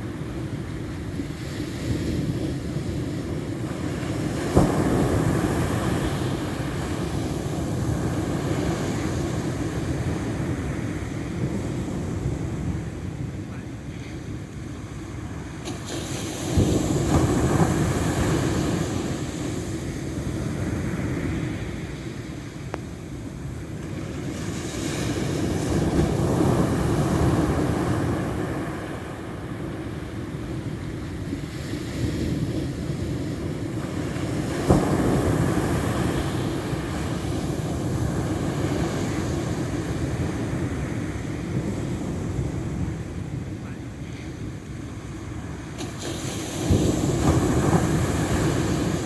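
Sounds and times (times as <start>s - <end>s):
ocean wave breaking: 0.0s - 49.0s
steady sea hiss: 0.0s - 49.0s.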